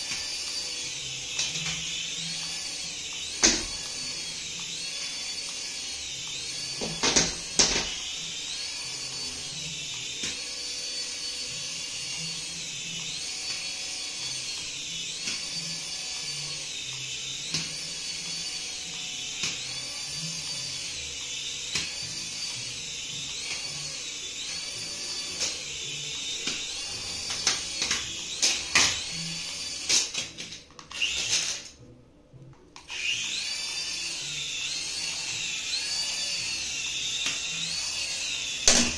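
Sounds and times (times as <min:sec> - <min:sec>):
toy helicopter rotor motors whining: 0:00.0 - 0:31.9, 0:32.8 - 0:38.9.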